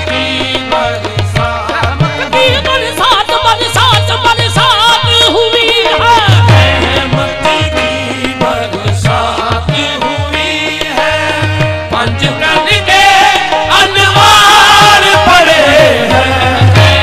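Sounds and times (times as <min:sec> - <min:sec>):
tabla drumming: 0:00.0 - 0:17.0.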